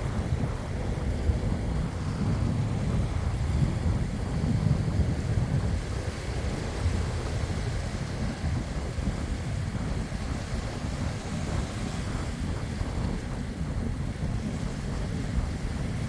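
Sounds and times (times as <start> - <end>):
small waves lapping on shore: 0.0 - 16.0
wind on microphone: 0.0 - 16.0.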